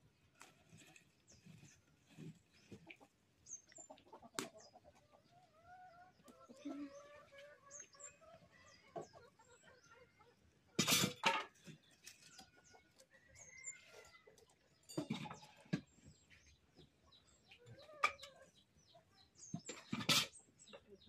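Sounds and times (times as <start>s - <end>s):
small birds chirping: 0.0s - 10.7s, 11.6s - 21.0s
chickens clucking: 0.5s - 21.0s.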